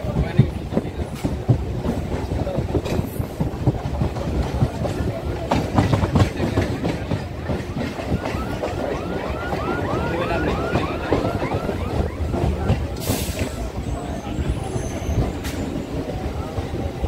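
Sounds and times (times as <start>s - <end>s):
train rumbling and rattling: 0.0s - 17.0s.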